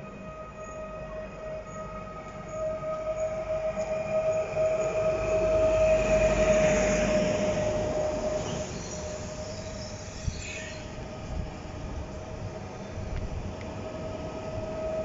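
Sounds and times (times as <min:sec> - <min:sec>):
high squeal gliding down: 0:00.0 - 0:11.3, 0:12.6 - 0:15.0
wheels rumbling on rail: 0:00.0 - 0:15.0
high electric whine: 0:00.1 - 0:15.0.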